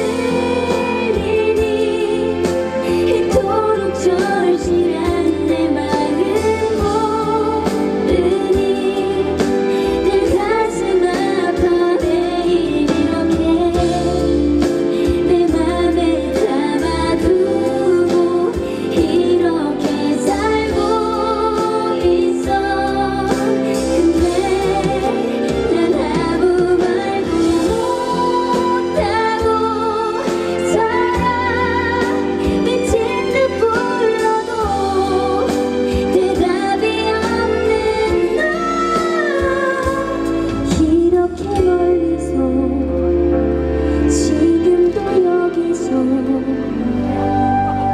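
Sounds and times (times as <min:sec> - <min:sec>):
full band backing: 0:00.0 - 0:47.9
woman singing pop ballad: 0:00.0 - 0:47.9.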